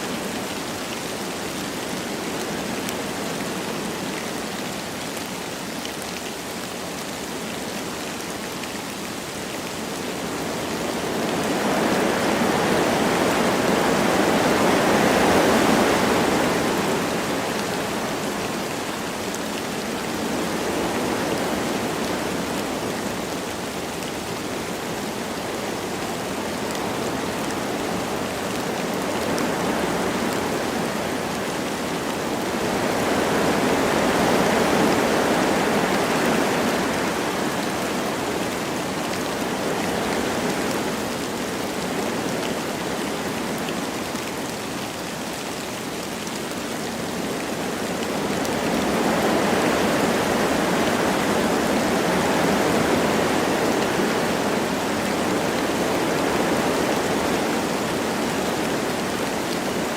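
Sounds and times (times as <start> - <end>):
light rain falling: 0.0 - 59.9
wind through trees: 0.0 - 59.9.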